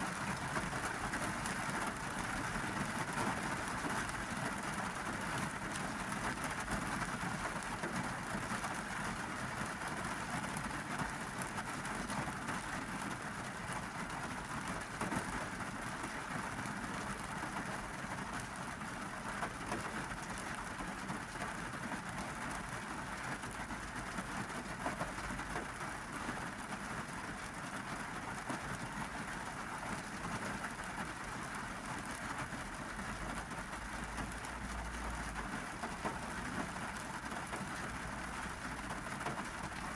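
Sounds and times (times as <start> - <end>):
heavy rain drumming on car roof: 0.0 - 39.9.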